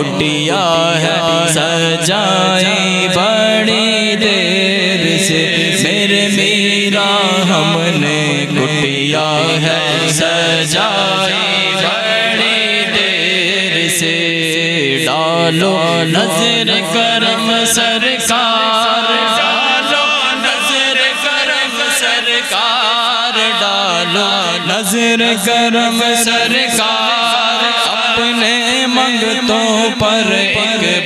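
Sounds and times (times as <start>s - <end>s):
person singing devotional song: 0.0s - 31.0s.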